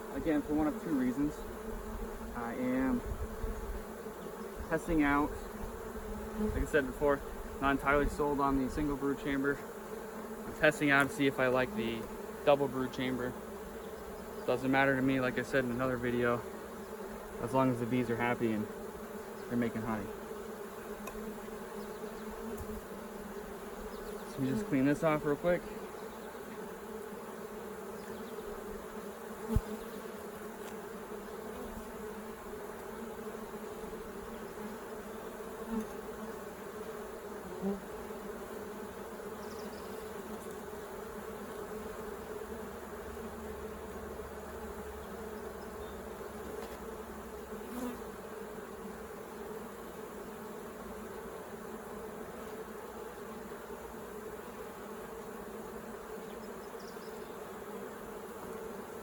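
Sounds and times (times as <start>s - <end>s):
honeybees buzzing: 0.0s - 59.0s.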